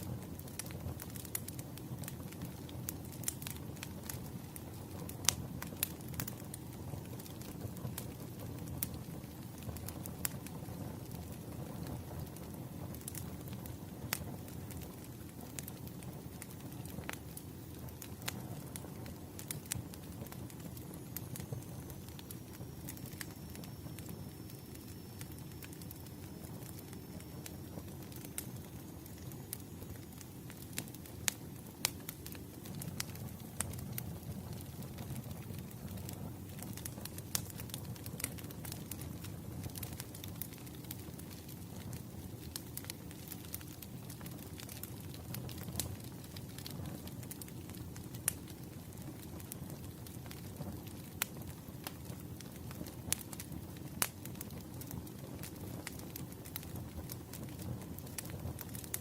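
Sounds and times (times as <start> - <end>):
firewood crackling and popping: 0.0 - 59.0
low rumble of fire: 0.0 - 59.0.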